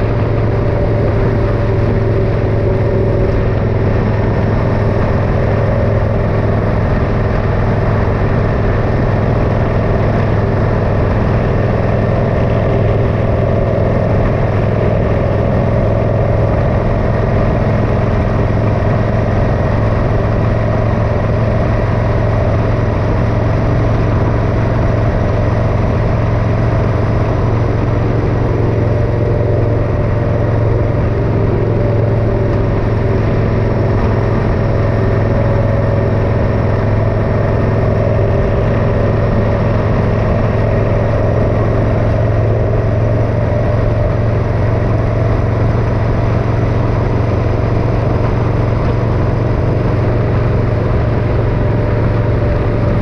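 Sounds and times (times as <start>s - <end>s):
motorcycle engine running: 0.0s - 53.0s
road noise: 0.0s - 53.0s.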